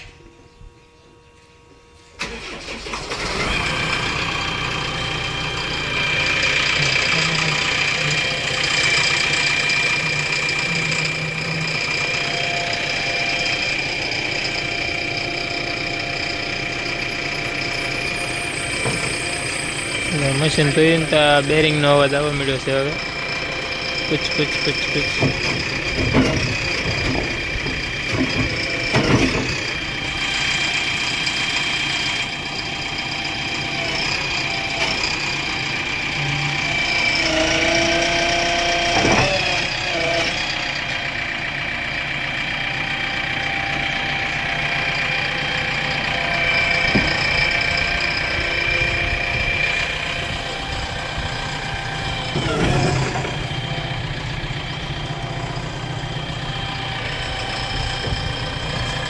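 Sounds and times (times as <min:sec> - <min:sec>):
diesel engine idling: 0:00.0 - 0:59.0
high-pitched bearing whine: 0:03.4 - 0:59.0.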